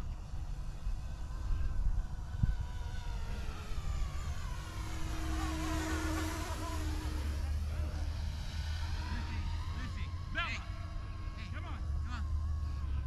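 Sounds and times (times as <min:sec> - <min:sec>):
model helicopter rotors whining: 0:00.0 - 0:13.0.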